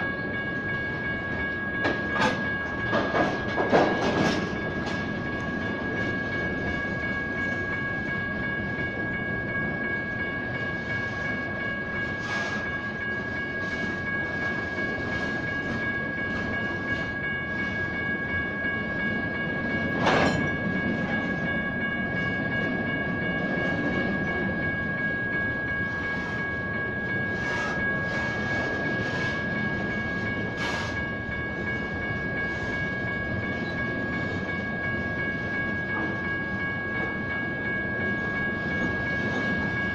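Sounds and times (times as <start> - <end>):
crossing bells ringing: 0.0 - 39.9
freight train rolling: 0.0 - 39.9.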